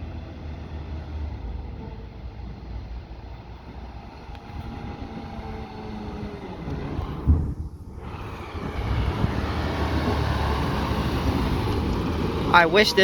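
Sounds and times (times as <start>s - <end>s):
garbage truck diesel engine rumble: 0.0s - 13.0s.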